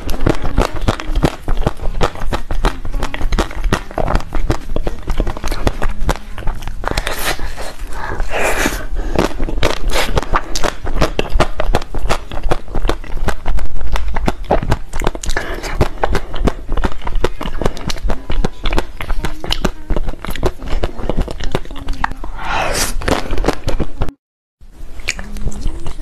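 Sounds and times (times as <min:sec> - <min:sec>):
person chewing cake: 0:00.0 - 0:24.1.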